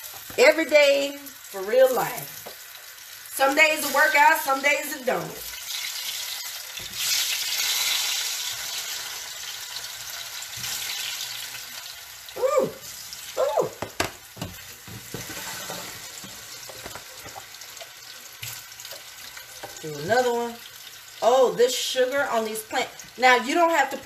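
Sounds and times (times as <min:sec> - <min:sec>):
slices sizzling in hot oil: 0:00.0 - 0:24.0.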